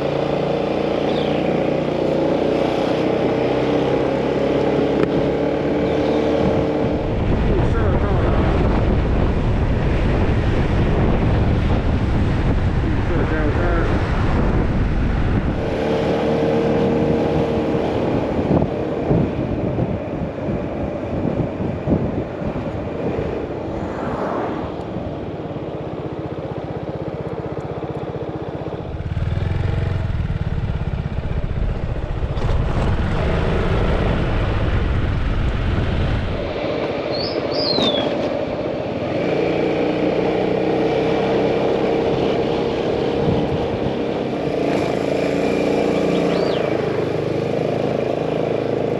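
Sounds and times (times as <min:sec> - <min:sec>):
motorcycle engine running: 0:00.0 - 0:22.2, 0:25.0 - 0:37.4, 0:38.5 - 0:48.9
wind rumble on microphone: 0:00.0 - 0:27.5, 0:28.1 - 0:48.9.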